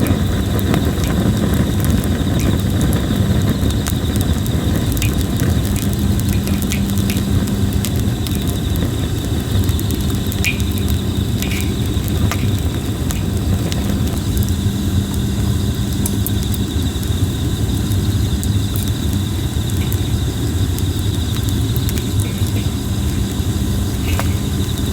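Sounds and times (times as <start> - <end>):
campfire crackling and popping: 0.0 - 24.9
insects trilling: 0.0 - 24.9
steady low rumble: 0.0 - 24.9.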